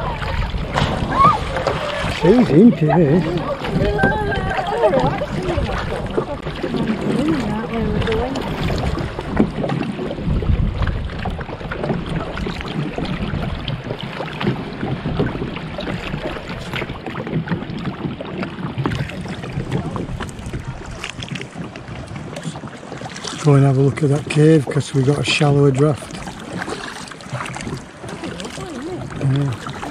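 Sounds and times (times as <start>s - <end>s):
kayak paddles splashing: 0.0s - 29.9s
water lapping and dripping: 0.0s - 29.9s
wind rumbling on microphone: 0.0s - 29.9s.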